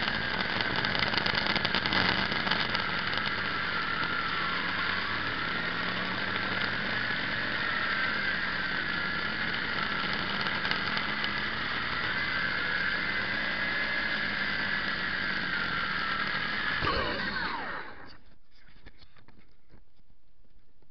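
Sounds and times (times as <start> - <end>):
quadcopter motors whining: 0.0 - 19.5.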